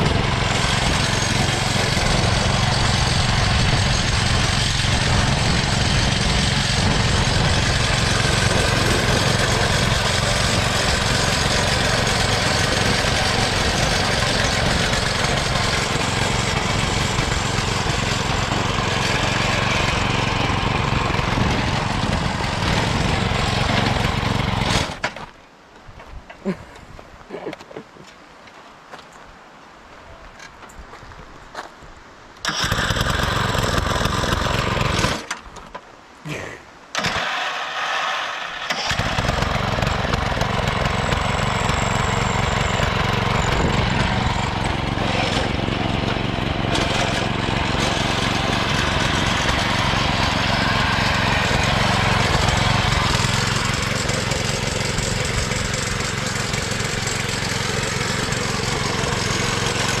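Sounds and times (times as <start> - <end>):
lawnmower engine starting and running: 0.0 - 25.3, 32.4 - 35.8, 36.9 - 60.0.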